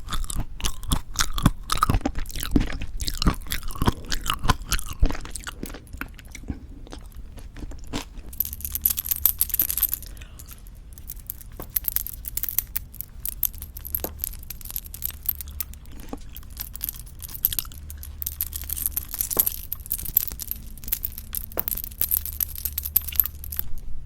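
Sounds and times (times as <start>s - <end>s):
crisp eating crackles: 0.0s - 22.4s.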